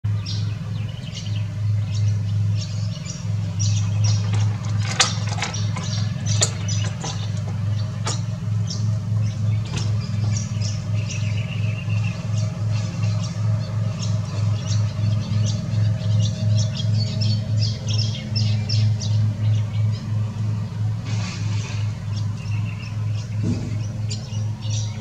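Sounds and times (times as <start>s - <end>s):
pulsing low hum: 0.1s - 25.0s
small birds chirping: 0.1s - 25.0s.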